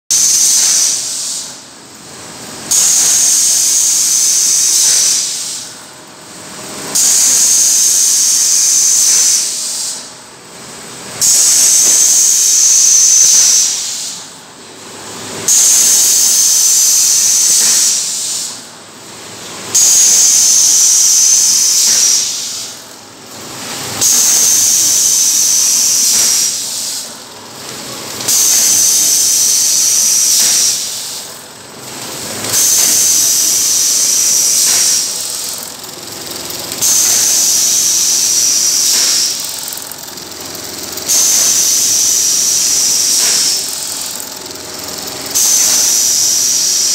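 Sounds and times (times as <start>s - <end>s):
machine hissing: 0.1s - 46.9s.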